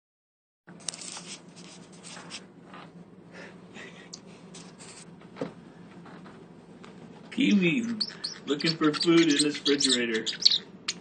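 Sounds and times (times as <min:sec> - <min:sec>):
steady low hum: 0:00.7 - 0:11.0.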